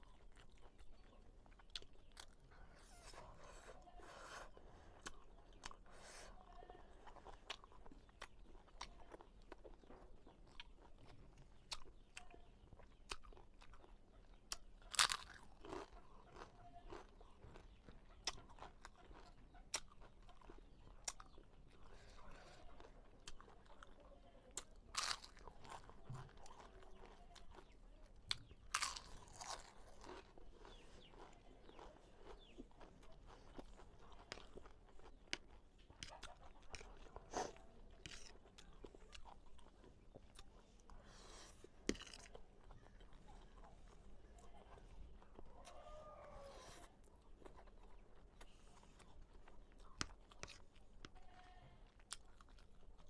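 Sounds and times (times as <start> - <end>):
chewing with mouth clicks: 0.0 - 53.0.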